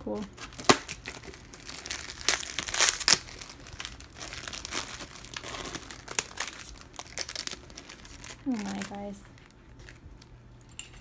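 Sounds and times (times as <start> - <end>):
plastic bag crinkling: 0.3 - 10.4.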